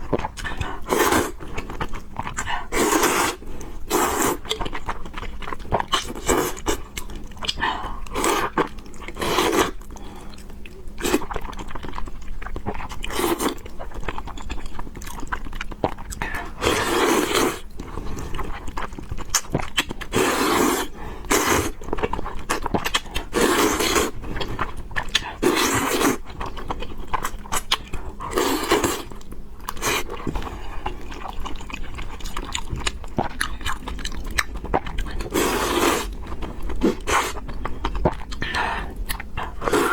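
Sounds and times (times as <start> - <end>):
wet chewing and biting: 0.0 - 39.9.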